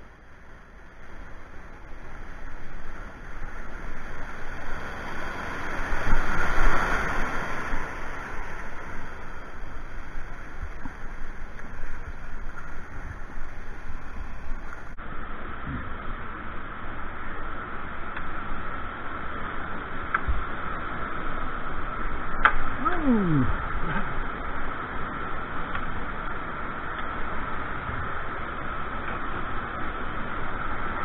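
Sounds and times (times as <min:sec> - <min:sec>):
water rushing over weir: 0:00.0 - 0:31.0.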